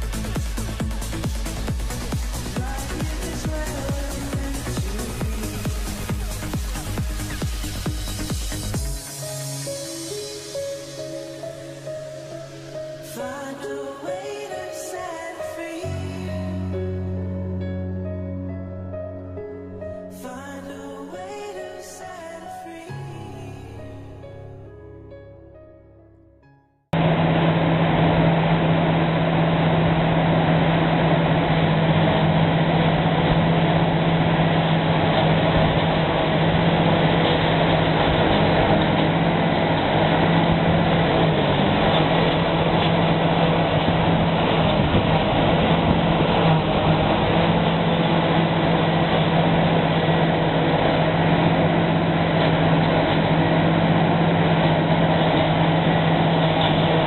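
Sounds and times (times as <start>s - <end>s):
forage harvester droning: 0.0s - 17.6s, 27.0s - 57.0s.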